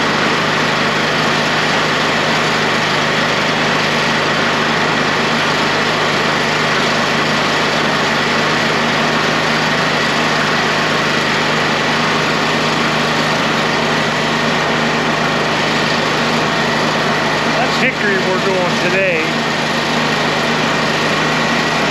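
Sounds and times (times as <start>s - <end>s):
sawmill engine idling: 0.0s - 21.9s.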